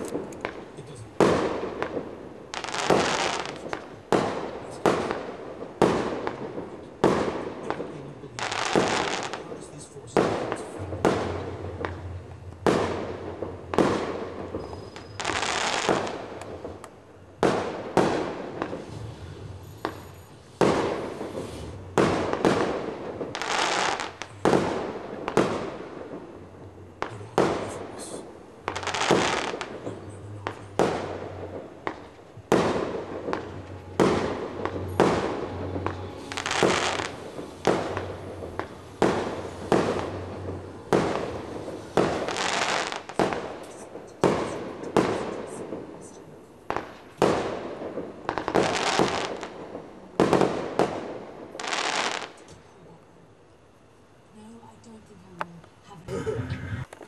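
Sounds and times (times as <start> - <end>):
firework hiss: 0.0 - 12.1, 17.5 - 52.5
fireworks bangs: 0.0 - 52.5.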